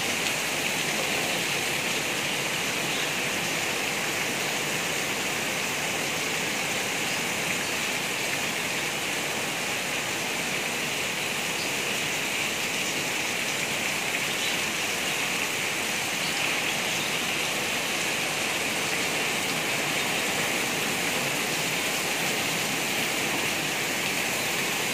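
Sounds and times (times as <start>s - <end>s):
heavy rain on roof and leaves: 0.0s - 24.9s.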